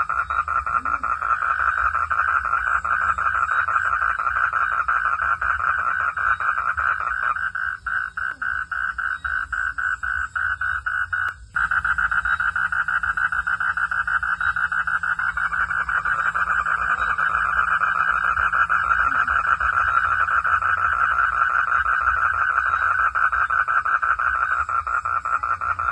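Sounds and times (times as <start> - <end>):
frogs calling: 0.0 - 25.9.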